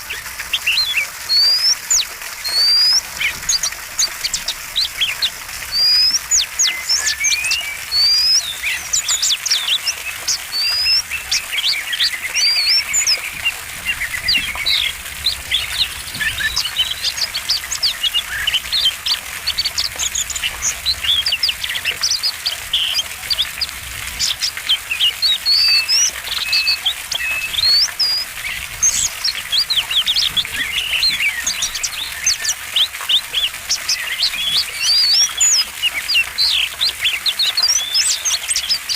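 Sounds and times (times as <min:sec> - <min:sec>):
magpie-robin singing: 0:00.5 - 0:38.9.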